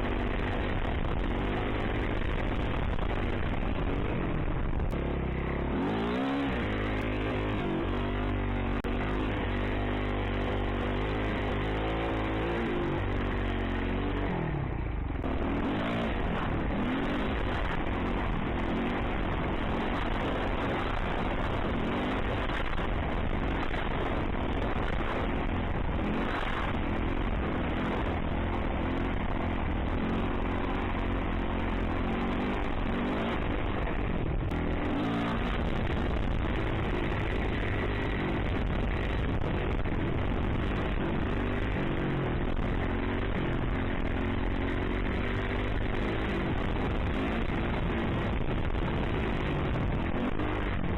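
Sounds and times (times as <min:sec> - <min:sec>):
dirt bike engine revving: 0:00.0 - 0:50.8
wind rumble on microphone: 0:00.0 - 0:50.9.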